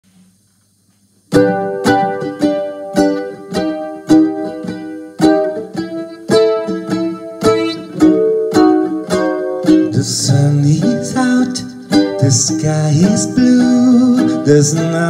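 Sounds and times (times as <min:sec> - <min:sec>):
ukulele strumming chords: 0:01.3 - 0:15.0.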